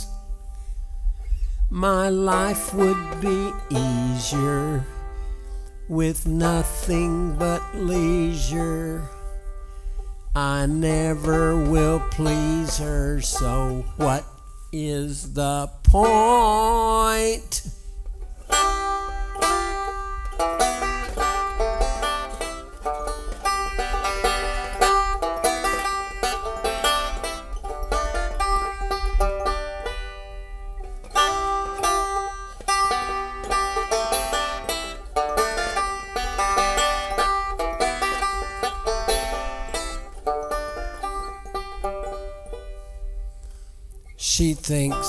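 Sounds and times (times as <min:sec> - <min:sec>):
banjo picking: 0:00.0 - 0:45.0.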